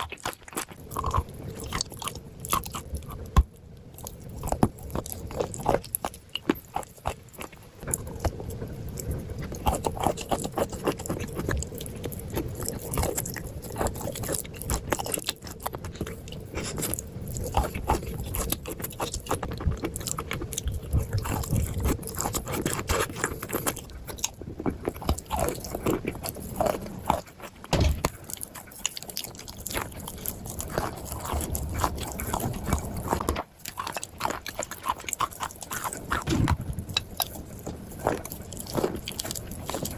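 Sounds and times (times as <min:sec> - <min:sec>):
crunching and chewing dry clay: 0:00.0 - 0:39.9.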